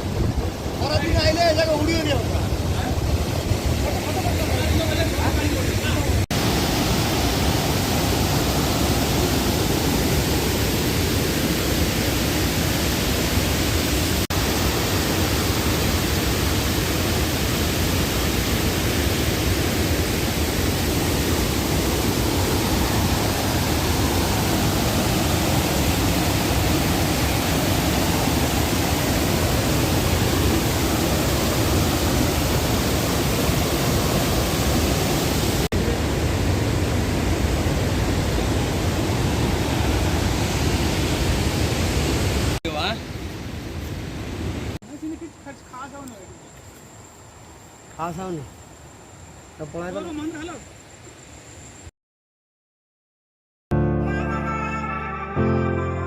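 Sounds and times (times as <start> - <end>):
waterfall roaring: 0.0 - 45.2.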